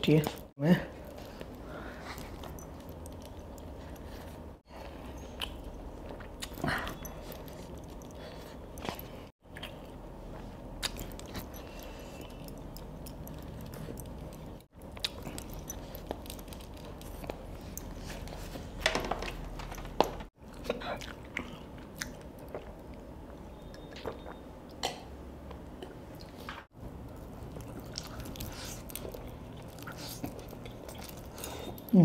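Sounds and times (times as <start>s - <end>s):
person chewing food: 1.0s - 18.7s, 19.8s - 24.8s, 25.5s - 32.0s.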